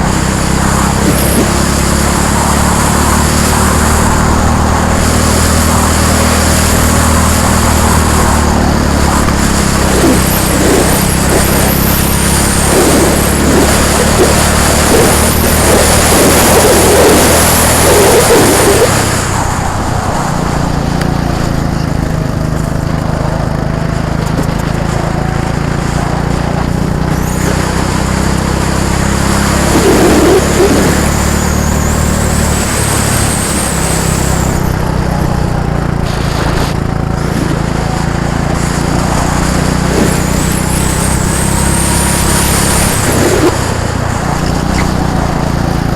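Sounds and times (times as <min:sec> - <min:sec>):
go-kart engines buzzing: 0:00.0 - 0:45.9.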